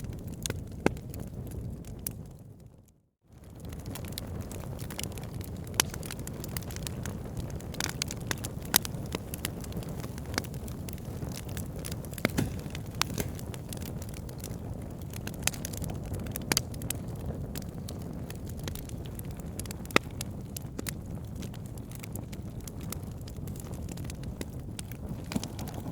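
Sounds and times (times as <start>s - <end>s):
wood fire crackling: 3.4s - 25.9s.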